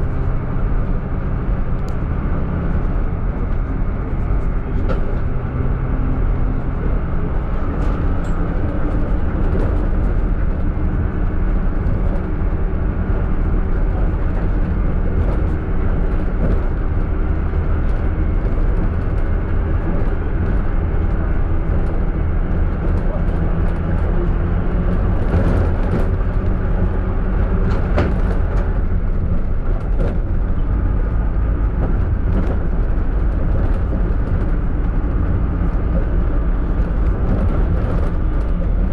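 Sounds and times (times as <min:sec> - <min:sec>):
minibus engine and road rumble: 0:00.0 - 0:38.9.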